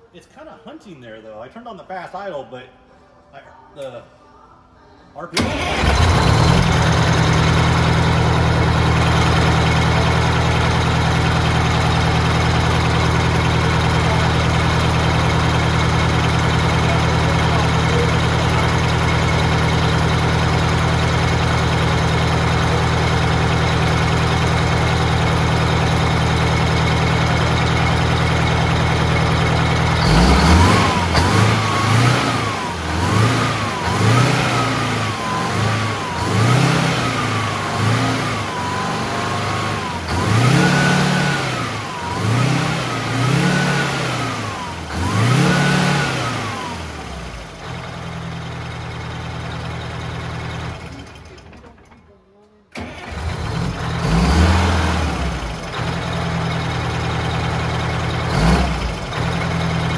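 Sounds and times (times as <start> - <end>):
diesel engine idling and revving: 5.4 - 52.0, 52.7 - 59.9.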